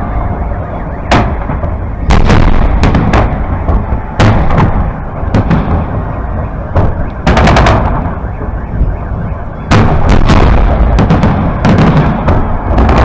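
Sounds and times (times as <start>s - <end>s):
fireworks rumble: 0.0s - 13.0s
fireworks sharp bangs: 0.0s - 13.0s.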